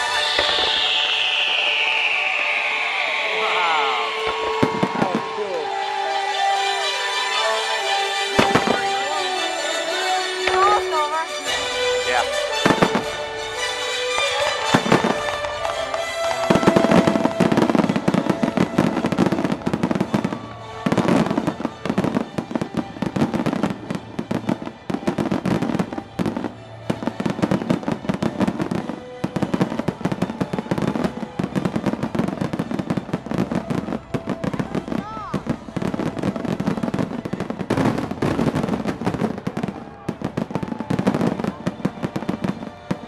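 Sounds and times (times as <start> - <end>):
fireworks bursts and crackling: 0.0 - 43.0.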